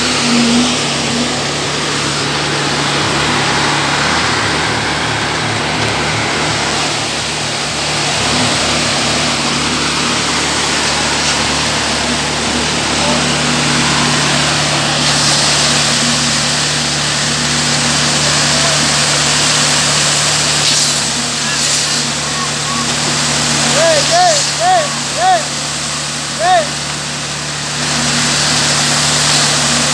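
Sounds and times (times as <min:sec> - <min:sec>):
concrete mixer engine running: 0:00.0 - 0:29.9
wet concrete pouring: 0:00.0 - 0:29.9.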